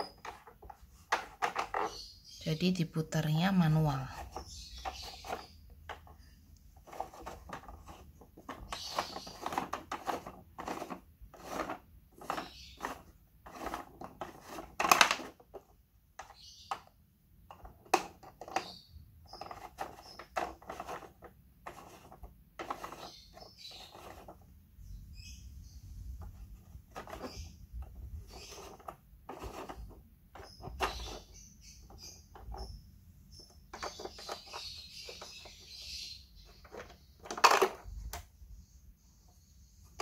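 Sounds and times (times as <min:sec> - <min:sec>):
plastic toy clicks and scrapes: 0:00.0 - 0:02.0, 0:04.1 - 0:06.1, 0:06.8 - 0:16.9, 0:17.5 - 0:24.4, 0:26.2 - 0:32.8, 0:33.4 - 0:38.3.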